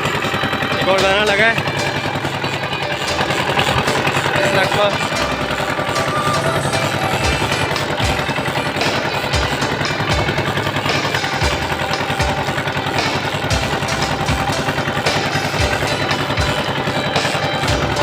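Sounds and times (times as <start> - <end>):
boat engine throbbing: 0.0 - 18.0.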